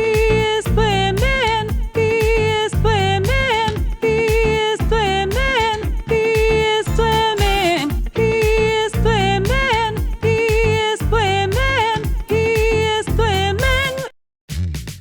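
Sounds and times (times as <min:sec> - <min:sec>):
bouncy background music: 0:00.0 - 0:14.1.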